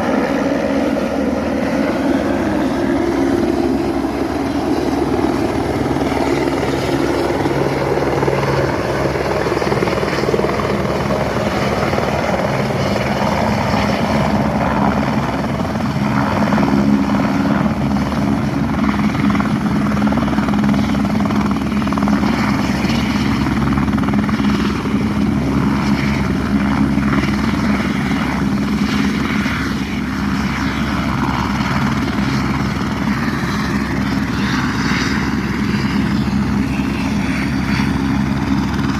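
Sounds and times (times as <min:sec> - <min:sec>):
helicopter engine drone: 0:00.0 - 0:38.9
helicopter rotor beat: 0:00.0 - 0:38.9.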